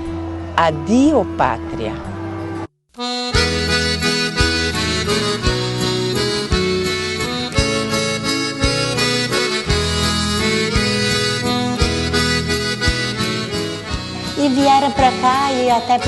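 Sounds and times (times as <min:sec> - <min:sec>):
free-reed instrument melody: 0:02.1 - 0:16.0.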